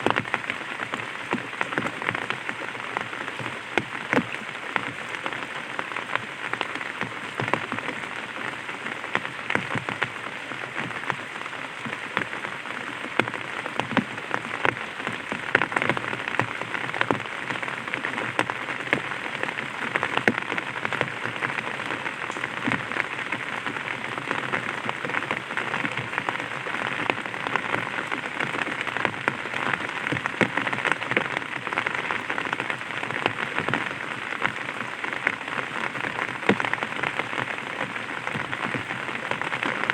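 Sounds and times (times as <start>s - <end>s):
light rain on an umbrella: 0.0s - 39.9s.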